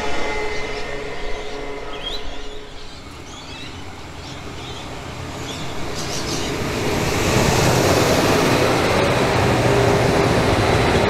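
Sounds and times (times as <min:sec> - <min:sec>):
diesel railcar running: 0:00.0 - 0:11.0.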